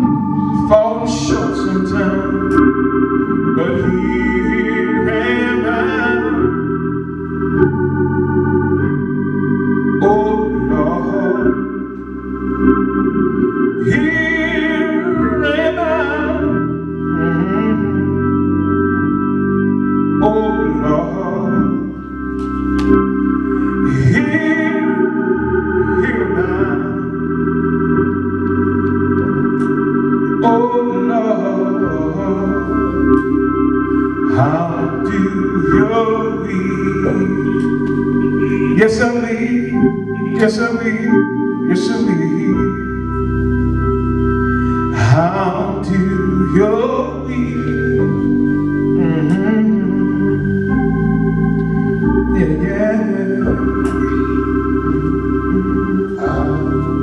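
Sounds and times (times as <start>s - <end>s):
man singing gospel: 0.0s - 7.0s, 10.0s - 11.8s, 13.4s - 19.4s, 20.1s - 27.6s, 29.4s - 43.3s, 44.9s - 50.8s, 52.0s - 57.0s
organ playing held chords: 0.0s - 57.0s.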